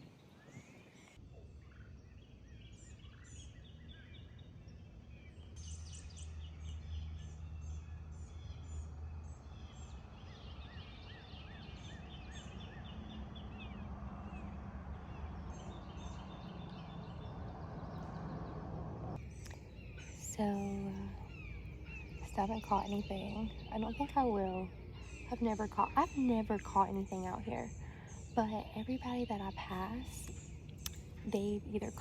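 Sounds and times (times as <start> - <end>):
birds chirping: 0.0 - 32.0
steady low rumble: 5.1 - 32.0.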